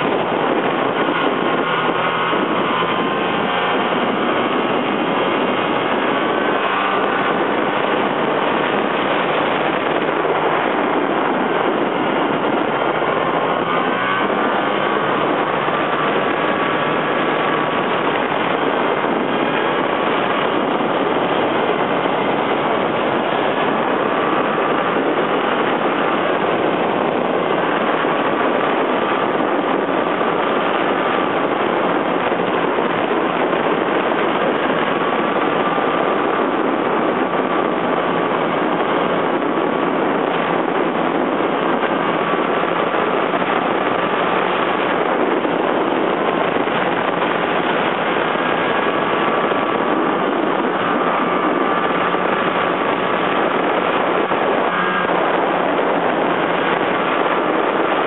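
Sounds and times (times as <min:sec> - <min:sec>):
faint whine: 0:00.0 - 0:58.0
snowmobile engine running: 0:00.0 - 0:58.0.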